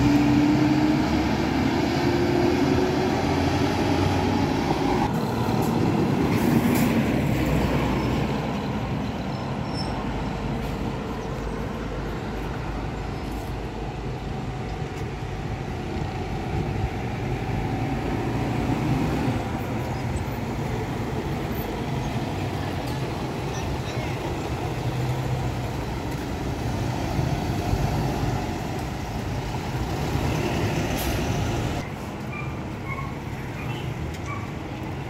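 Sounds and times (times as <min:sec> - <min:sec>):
heavy vehicles passing: 0:00.0 - 0:35.0.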